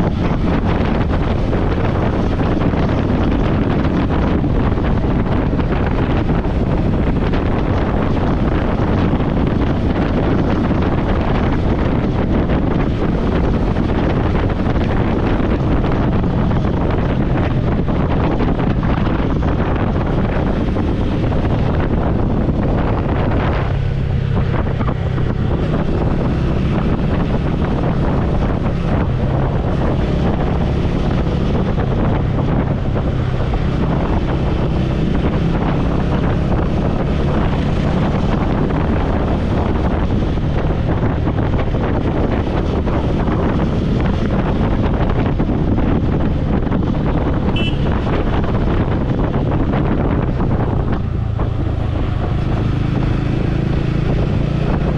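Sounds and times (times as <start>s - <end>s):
motorcycle engine drone: 0.0s - 54.9s
wind rushing over microphone: 0.0s - 54.9s.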